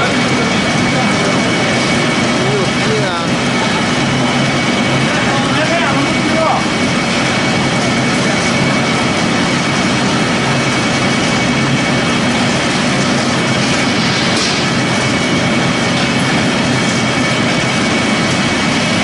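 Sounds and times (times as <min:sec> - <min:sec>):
pellet mill machine running: 0:00.0 - 0:19.0.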